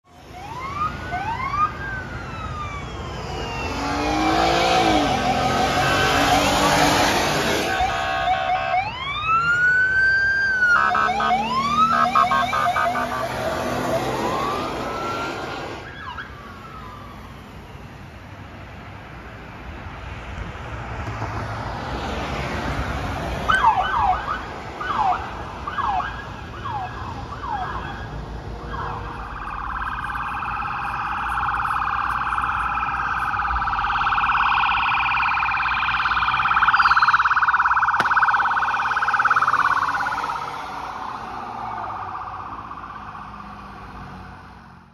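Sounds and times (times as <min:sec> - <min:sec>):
police siren warbling: 0:00.1 - 0:17.8, 0:23.5 - 0:44.5
police siren whoops: 0:00.2 - 0:17.8, 0:23.5 - 0:44.4.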